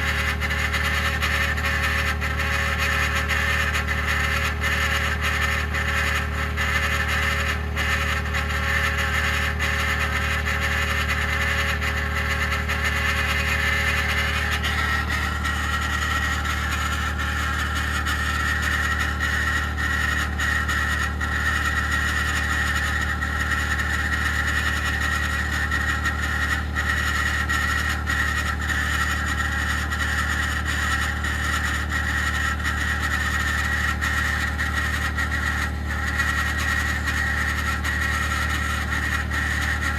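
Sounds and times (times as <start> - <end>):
truck engine running: 0.0 - 20.6, 25.4 - 39.9
grinding whirring whine: 0.0 - 39.9.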